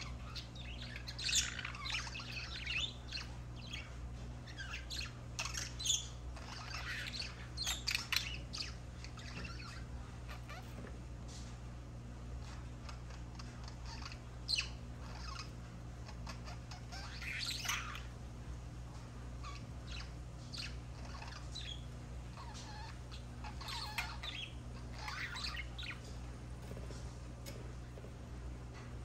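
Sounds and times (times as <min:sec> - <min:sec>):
budgerigars chirping and warbling: 0:00.0 - 0:11.6, 0:12.4 - 0:29.0.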